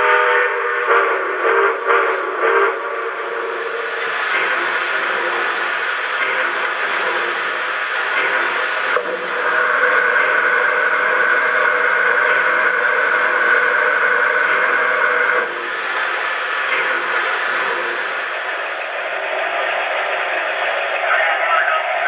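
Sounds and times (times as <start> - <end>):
model locomotive steam hiss: 0.0 - 22.0.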